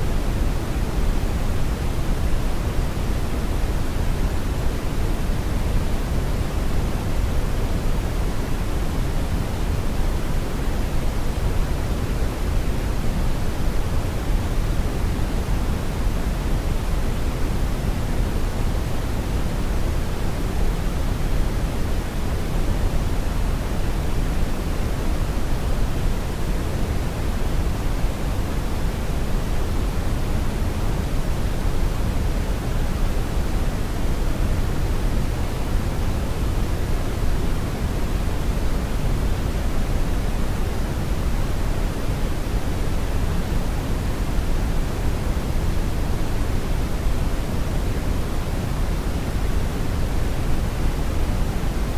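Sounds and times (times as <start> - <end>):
brown noise rumbling hiss: 0.0 - 51.9.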